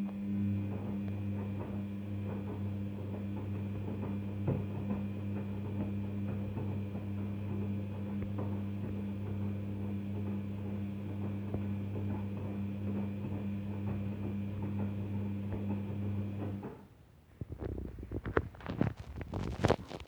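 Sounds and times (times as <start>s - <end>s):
washing machine motor humming: 0.0s - 16.9s.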